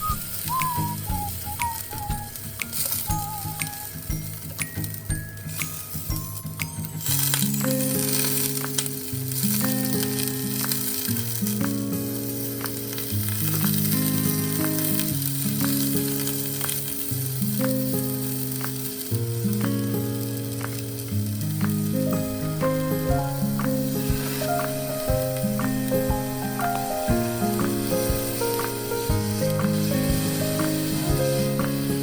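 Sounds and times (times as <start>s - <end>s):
food sizzling in a frying pan: 0.0s - 32.0s
soft background music: 0.0s - 32.0s.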